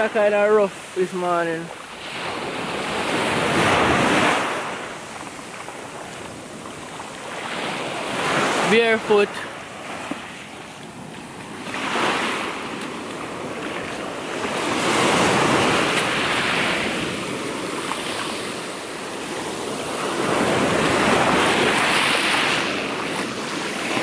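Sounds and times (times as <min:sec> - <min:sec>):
surf washing up pebbly beach: 0:00.0 - 0:24.0.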